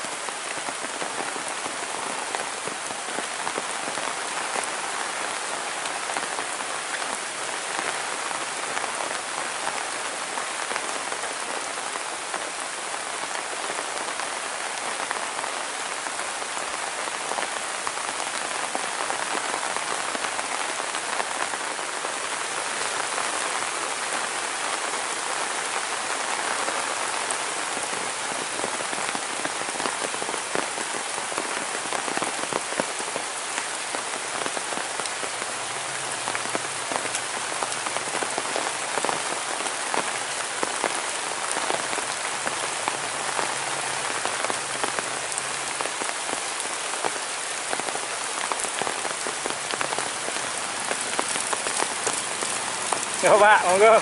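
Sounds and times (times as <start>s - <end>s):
rain falling on foliage: 0.0s - 54.0s.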